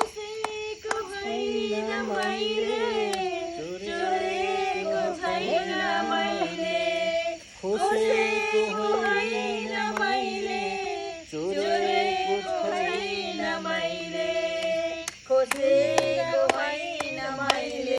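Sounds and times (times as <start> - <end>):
people singing together: 0.0 - 17.9.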